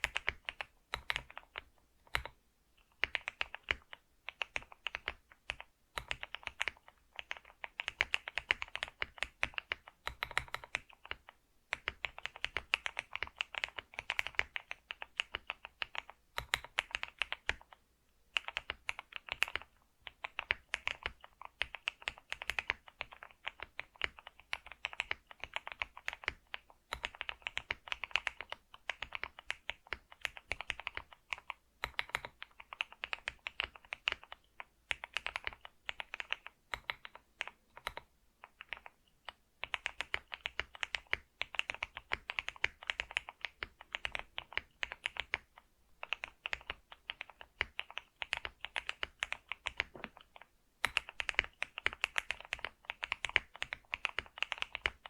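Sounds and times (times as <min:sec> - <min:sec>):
typing on a keyboard: 0:00.0 - 0:55.0.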